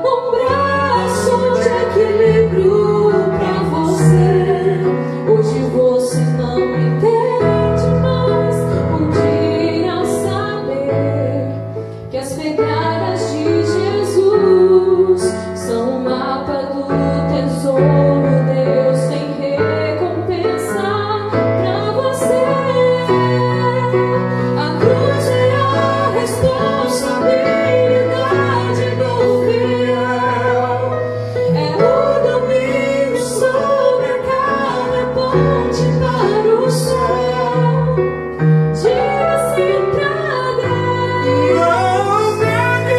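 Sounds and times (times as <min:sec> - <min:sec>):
woman singing gospel song: 0:00.0 - 0:38.0, 0:38.8 - 0:42.9.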